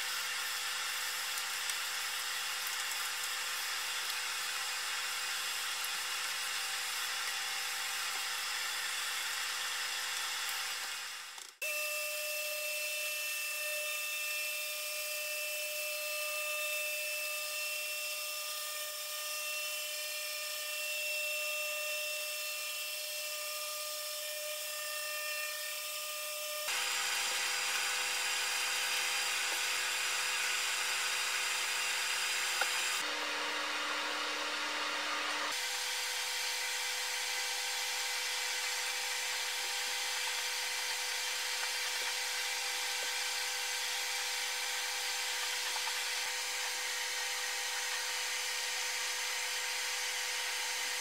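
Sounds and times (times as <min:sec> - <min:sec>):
orbital sander whirring: 0:03.8 - 0:51.0.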